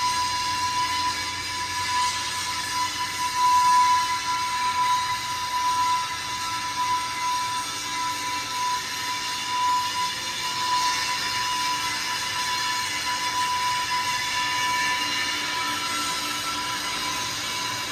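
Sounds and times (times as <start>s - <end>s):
machinery high whine: 0.0s - 17.9s.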